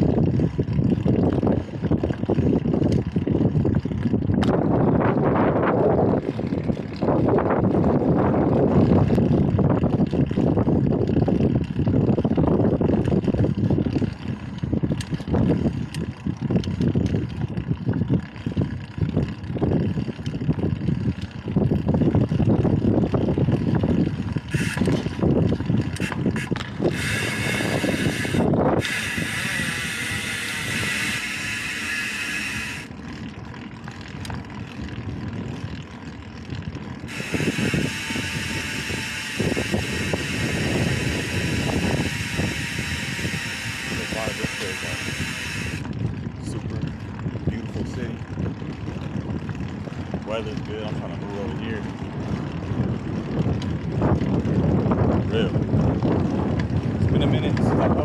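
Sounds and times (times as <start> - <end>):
bicycle tyre noise: 0.0 - 58.0
wind buffeting microphone: 0.0 - 58.0.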